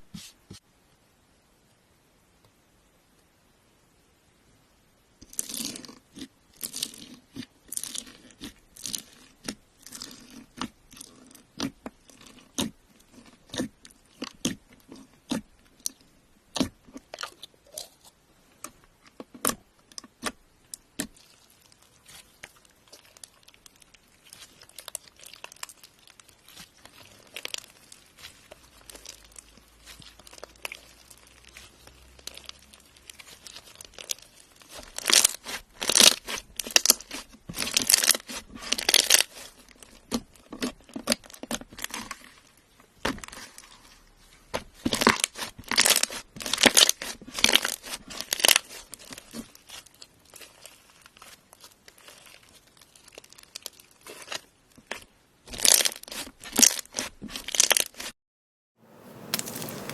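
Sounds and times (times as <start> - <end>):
slime crackling and popping: 5.2 - 58.1, 59.1 - 59.9.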